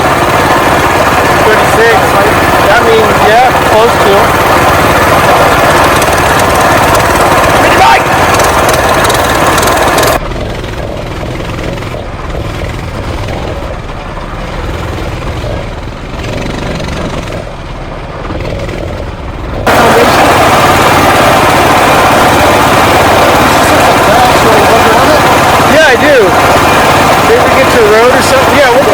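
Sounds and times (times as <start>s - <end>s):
minibike engine running: 0.0s - 28.9s.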